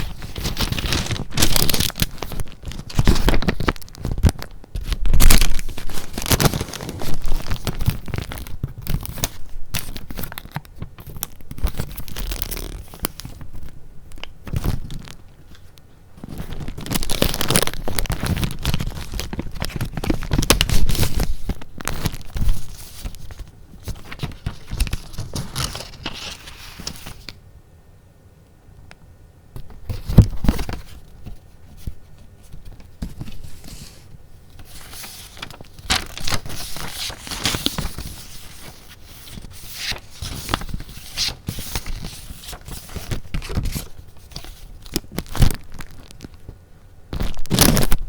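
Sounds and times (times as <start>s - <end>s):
paper crinkling and rustling: 0.0s - 27.4s, 29.6s - 48.0s.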